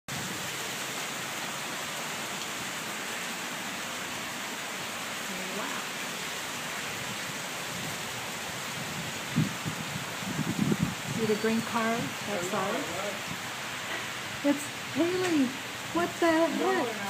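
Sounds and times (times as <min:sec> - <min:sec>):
hail hissing on ground: 0:00.1 - 0:17.0.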